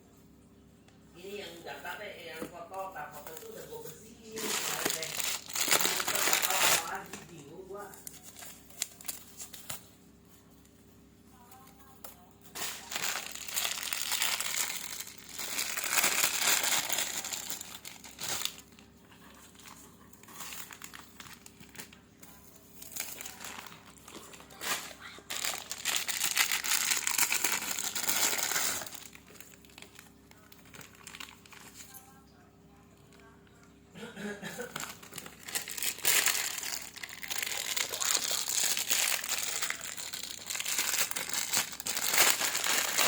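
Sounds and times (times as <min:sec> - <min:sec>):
packaging crinkling: 0:02.8 - 0:10.0, 0:12.0 - 0:32.0, 0:34.6 - 0:43.0.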